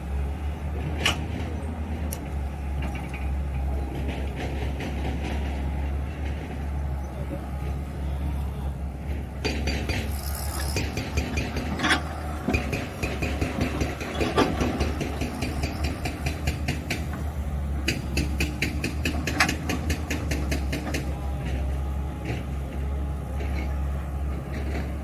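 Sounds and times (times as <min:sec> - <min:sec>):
digger diesel engine humming: 0:00.0 - 0:25.0.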